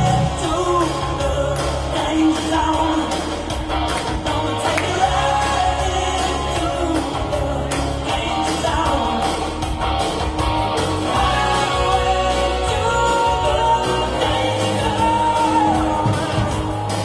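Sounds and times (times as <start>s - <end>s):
bass guitar: 0.0s - 17.0s
drums: 0.0s - 17.0s
electric guitars: 0.0s - 17.0s.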